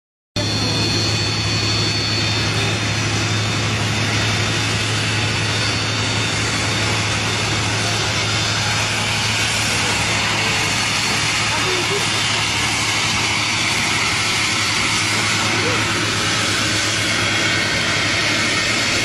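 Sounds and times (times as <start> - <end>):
jet engines whining: 0.4 - 19.0.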